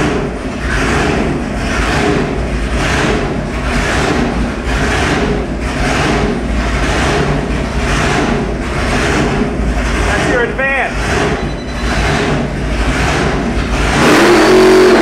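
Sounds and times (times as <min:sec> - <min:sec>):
supercharged engine running: 0:00.0 - 0:15.0.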